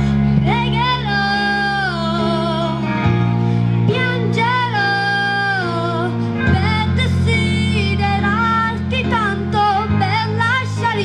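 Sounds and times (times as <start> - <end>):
girl singing through a microphone: 0.0 - 11.0
recorded backing track: 0.0 - 11.0.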